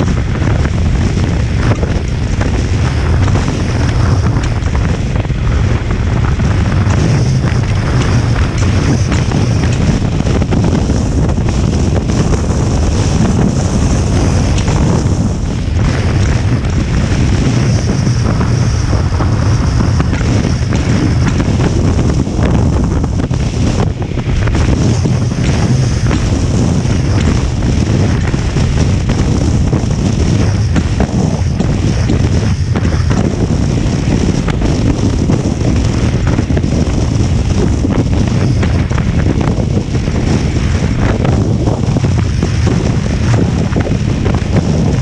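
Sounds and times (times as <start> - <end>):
motorcycle engine: 0.0 - 45.0
road noise: 0.0 - 45.0
wind buffeting microphone: 0.0 - 45.0.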